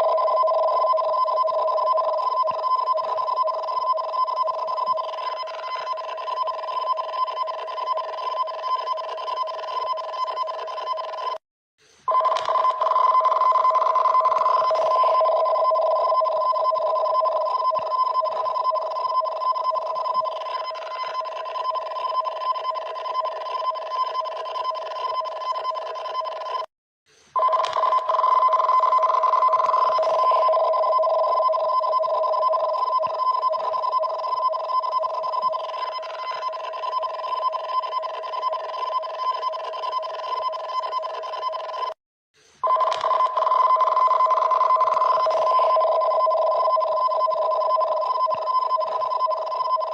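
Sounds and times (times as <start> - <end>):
two-tone electronic alarm warbling: 0.0 - 11.4, 12.1 - 26.5, 27.4 - 41.9, 42.6 - 49.9.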